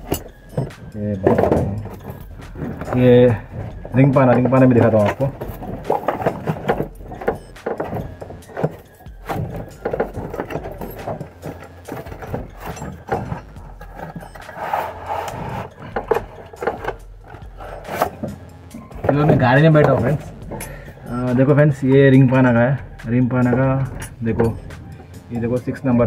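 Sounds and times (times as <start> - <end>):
cardboard scraping and rubbing: 0.0 - 21.9.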